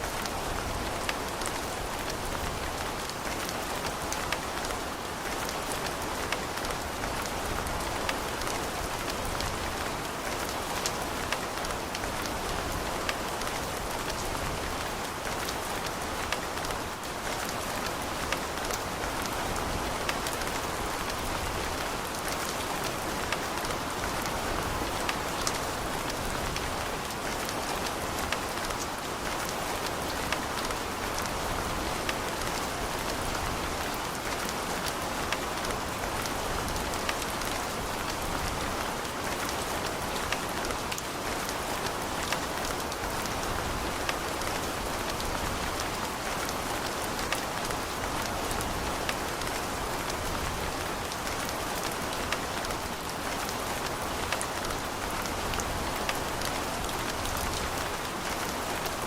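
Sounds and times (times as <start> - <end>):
rain falling on a surface: 0.0 - 59.0.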